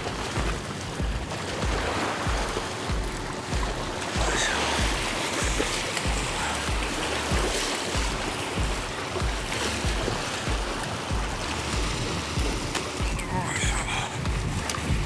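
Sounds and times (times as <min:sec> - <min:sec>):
fish thrashing at the surface: 0:00.0 - 0:15.0
low thumps: 0:00.0 - 0:15.0
waders splashing through water: 0:00.0 - 0:15.0.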